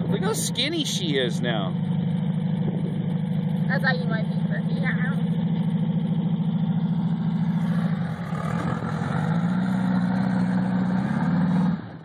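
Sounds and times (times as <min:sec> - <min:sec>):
buggy engine idling: 0:00.0 - 0:12.0.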